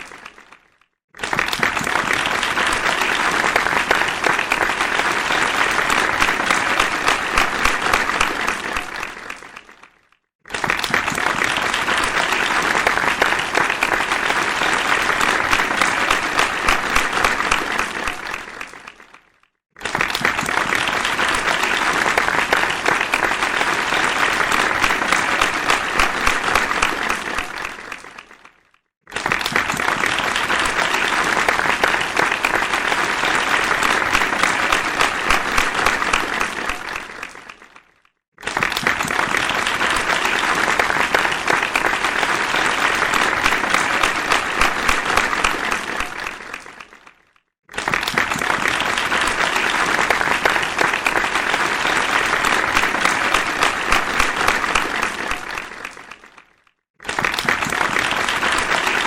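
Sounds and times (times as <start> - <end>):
crowd applauding: 0.0 - 59.0.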